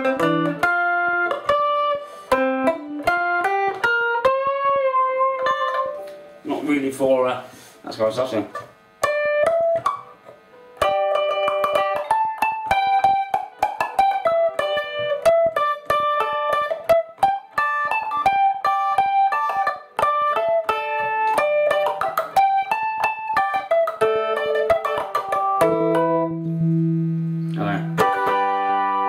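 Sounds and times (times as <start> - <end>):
electric mandolin melody: 0.0 - 6.7, 8.1 - 29.0.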